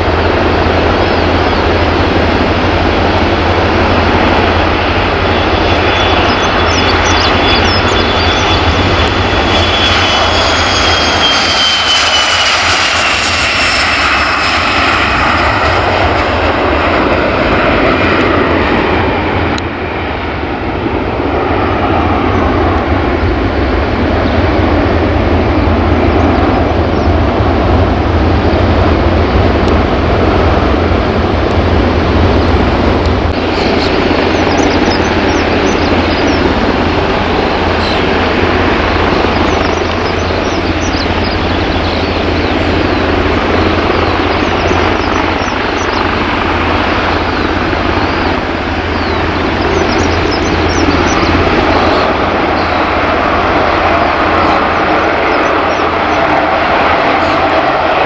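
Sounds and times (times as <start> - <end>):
jet engine whine: 0.0 - 58.0
jet rumble: 0.0 - 58.0.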